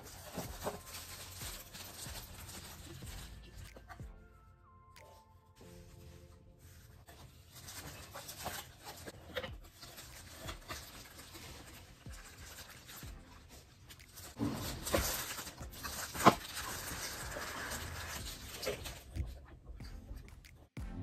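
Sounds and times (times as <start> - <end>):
plastic wrap crinkling: 0.0 - 4.0, 5.0 - 19.4.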